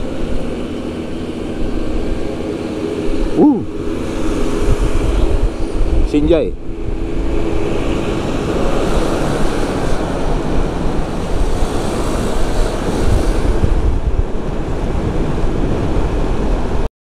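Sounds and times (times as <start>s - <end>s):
motorbike running: 0.0s - 16.8s
wind buffeting microphone: 0.0s - 16.9s.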